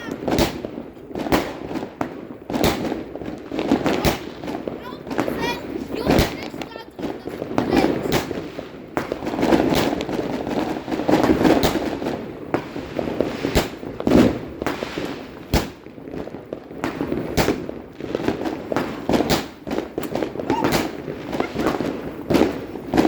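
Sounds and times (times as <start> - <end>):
firecrackers crackling: 0.0 - 23.0
fireworks bangs: 0.0 - 23.0.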